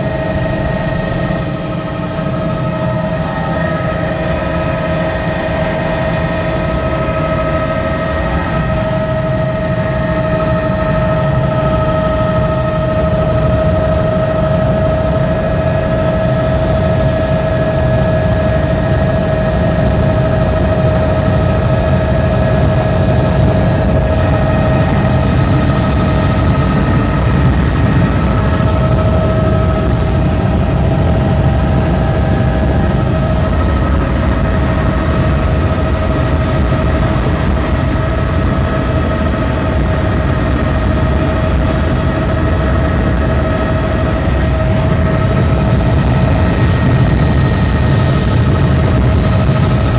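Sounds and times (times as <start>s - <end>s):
helicopter engine and rotor noise: 0.0s - 49.9s
high whine: 0.0s - 49.9s.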